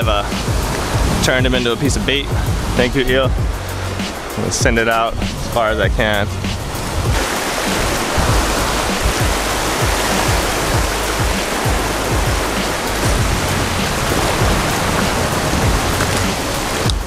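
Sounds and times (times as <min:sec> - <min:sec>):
surf washing over rocks: 0:00.0 - 0:17.0
wind buffeting thumps: 0:00.0 - 0:17.0
wind on microphone: 0:00.0 - 0:17.0.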